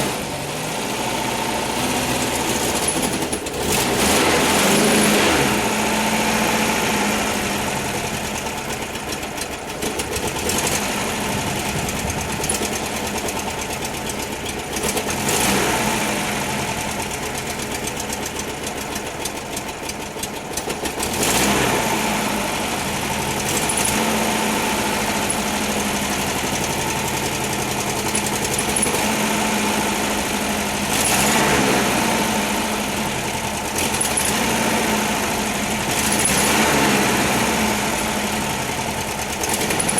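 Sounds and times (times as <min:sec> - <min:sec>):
air-cooled car engine running: 0:00.0 - 0:39.9.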